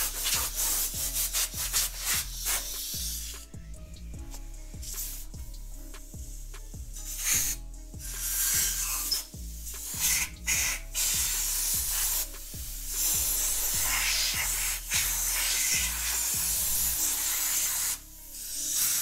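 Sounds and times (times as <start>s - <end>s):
air blow gun hissing: 0.0s - 3.5s, 4.8s - 5.4s, 7.0s - 19.0s.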